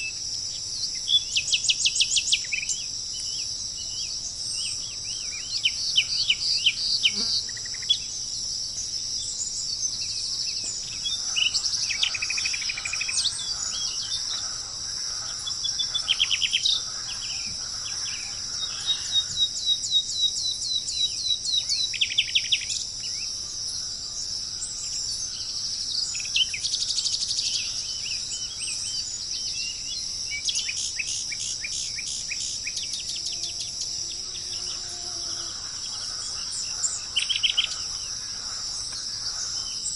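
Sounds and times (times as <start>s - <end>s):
birds chirping and trilling: 0.0s - 39.9s
high-pitched insect drone: 0.0s - 39.9s.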